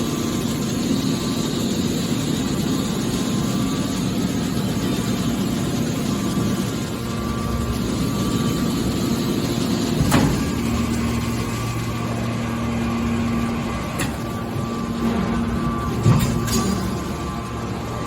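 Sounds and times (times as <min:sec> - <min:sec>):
hydraulic baler hum: 0:00.0 - 0:18.0.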